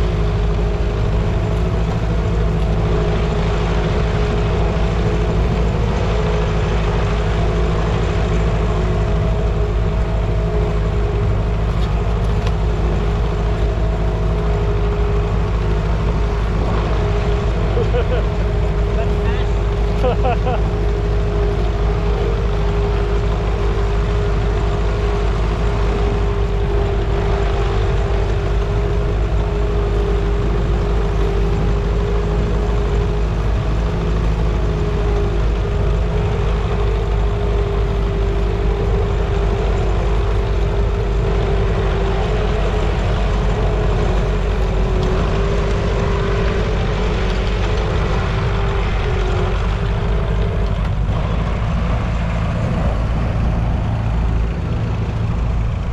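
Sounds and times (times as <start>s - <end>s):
heavy engine droning: 0.0s - 55.9s
steady hum: 0.0s - 55.9s.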